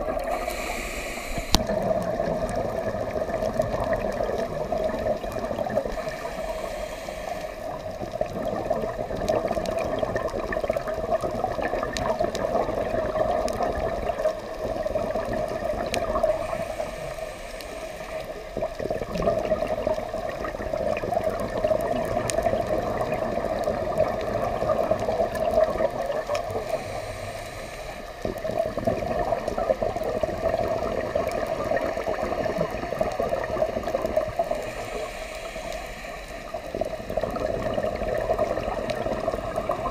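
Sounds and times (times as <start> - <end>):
faint clicks: 0.0 - 39.9
underwater regulator bubbling: 0.0 - 39.9
water noise wash: 0.0 - 39.9.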